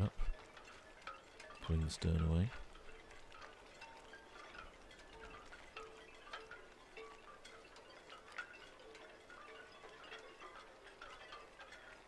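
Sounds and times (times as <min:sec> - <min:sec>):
faint chimes ringing: 0:00.0 - 0:12.0.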